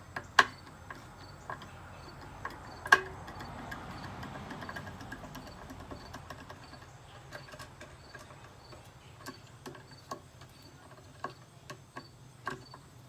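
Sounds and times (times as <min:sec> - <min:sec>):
light clicks and taps of tools: 0:00.0 - 0:13.0.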